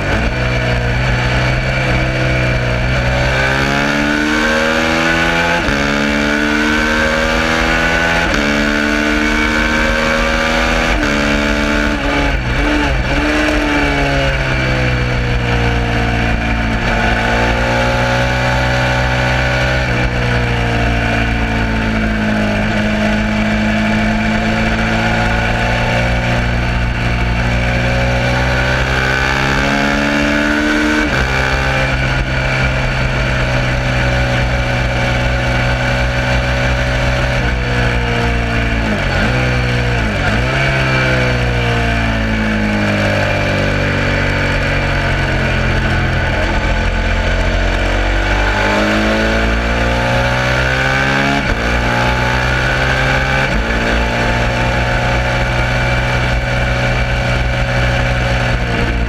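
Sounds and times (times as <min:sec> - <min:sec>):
motorcycle engine shifting gears: 0:00.0 - 0:59.0
wind rush: 0:07.0 - 0:59.0.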